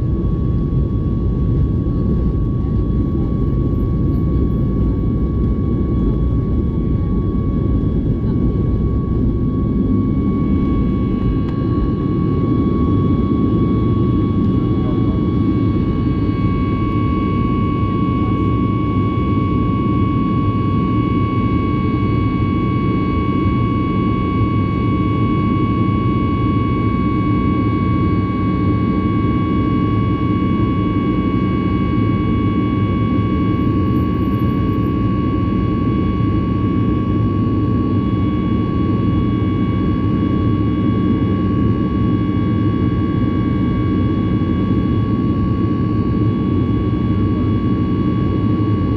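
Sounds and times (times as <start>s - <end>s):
high engine whine: 0.0s - 48.9s
jet engine cabin rumble: 0.0s - 48.9s.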